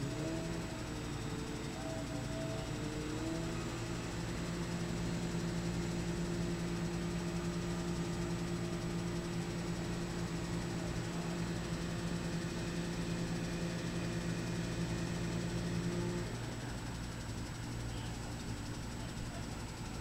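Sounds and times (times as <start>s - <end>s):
heavy vehicle engine idling: 0.0s - 20.0s.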